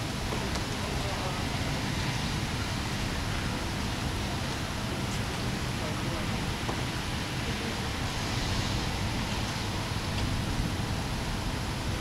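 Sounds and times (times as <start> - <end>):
rain and wind hiss: 0.0 - 12.0.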